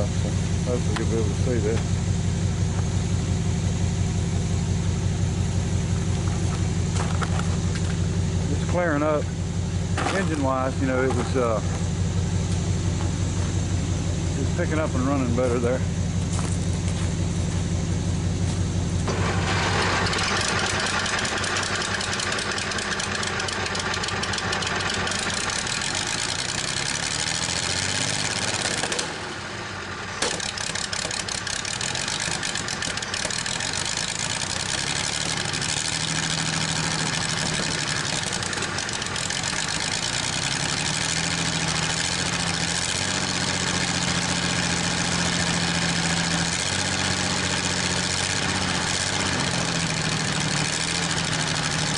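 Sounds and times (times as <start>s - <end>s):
tractor engine idling: 0.0s - 51.9s.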